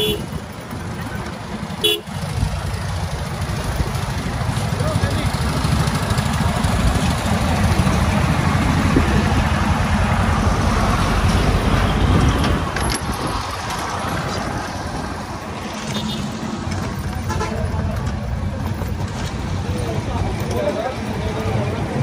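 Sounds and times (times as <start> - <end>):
street traffic noise: 0.0 - 22.0
truck engine rumbling: 0.0 - 22.0.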